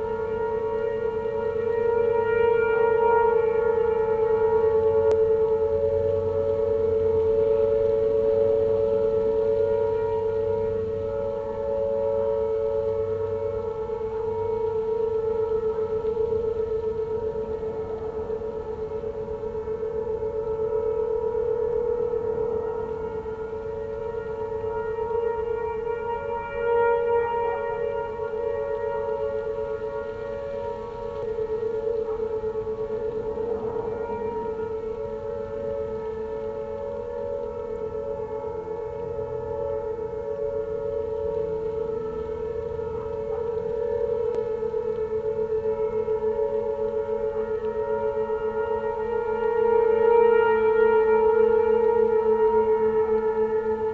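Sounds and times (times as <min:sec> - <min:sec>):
outdoor warning sirens: 0:00.0 - 0:53.9.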